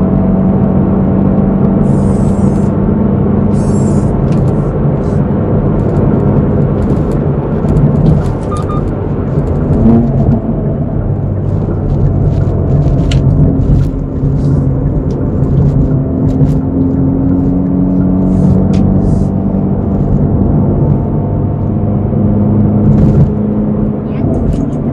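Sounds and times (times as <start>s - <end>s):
car engine drone from cabin: 0.0s - 24.9s
road noise: 0.0s - 24.9s.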